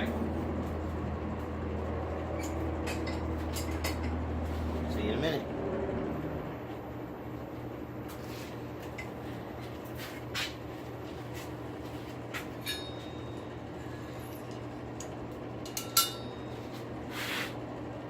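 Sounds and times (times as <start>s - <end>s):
forge blower humming: 0.0s - 18.0s.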